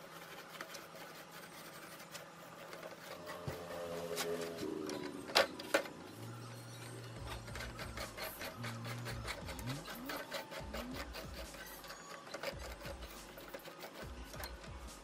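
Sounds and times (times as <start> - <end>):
brush scraping wire: 0.0 - 15.0.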